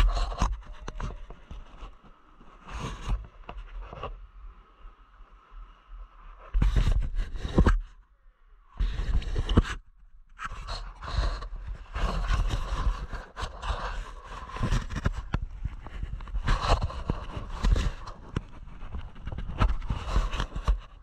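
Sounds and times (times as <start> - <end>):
scuffing against camera microphone: 0.0 - 4.1, 6.5 - 7.9, 8.8 - 21.0.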